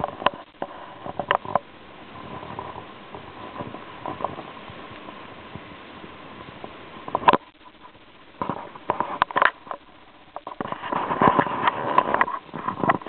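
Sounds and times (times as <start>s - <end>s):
rustling and scraping on microphone: 0.0s - 13.0s.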